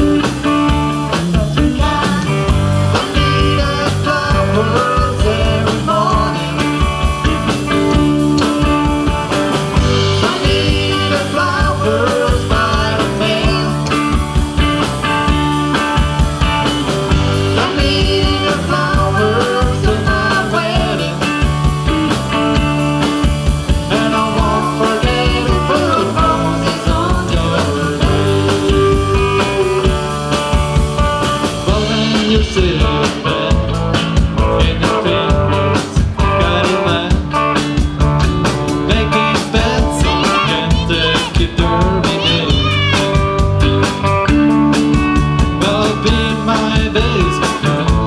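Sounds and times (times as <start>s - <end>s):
drum kit beat: 0.0s - 48.0s
electric guitars: 0.0s - 48.0s.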